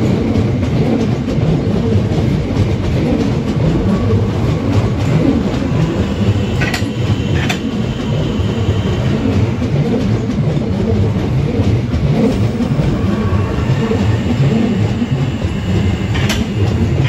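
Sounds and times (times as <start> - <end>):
train wheels rumbling on rails: 0.0 - 17.0
sharp clicks of wheels: 0.3 - 8.5, 9.1 - 17.0.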